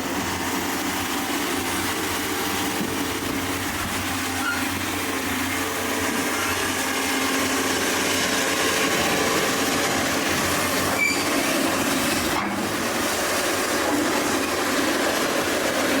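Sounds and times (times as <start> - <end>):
heavy machine rumbling and rattling: 0.0 - 16.0.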